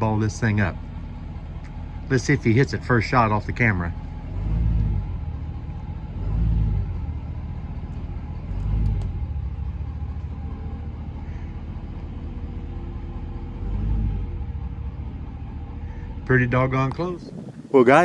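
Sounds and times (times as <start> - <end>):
pickup truck engine rumbling: 0.0 - 18.0.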